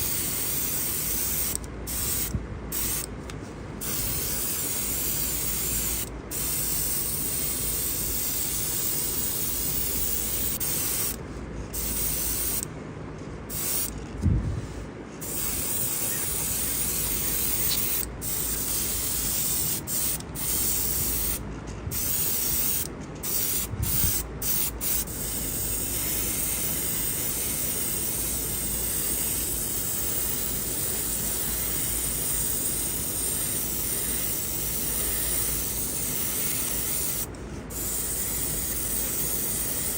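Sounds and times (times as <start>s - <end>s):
paint spraying hiss: 0.0s - 3.1s, 3.8s - 11.2s, 11.8s - 12.7s, 13.5s - 13.9s, 15.2s - 21.4s, 22.0s - 39.9s.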